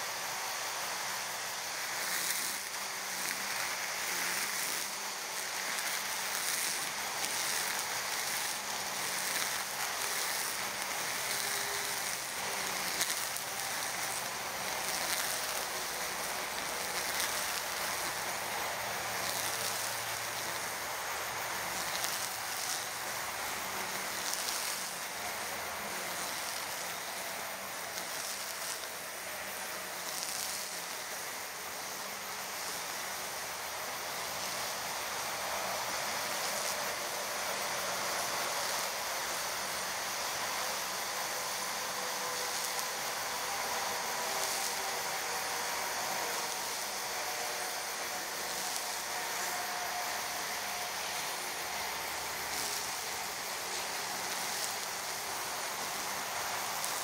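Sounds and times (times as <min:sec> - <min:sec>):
faint motor hum: 0:00.0 - 0:57.0
string trimmer line cutting grass: 0:00.0 - 0:57.0.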